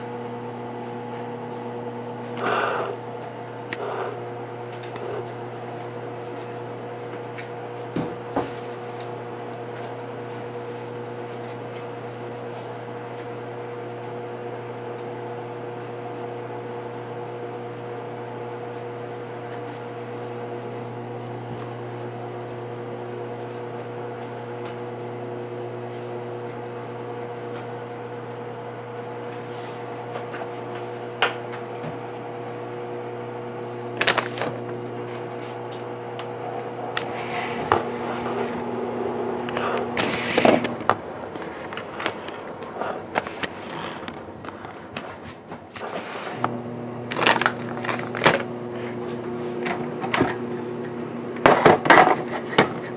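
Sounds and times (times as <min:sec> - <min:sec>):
kitchen appliance humming: 0:00.0 - 0:52.9.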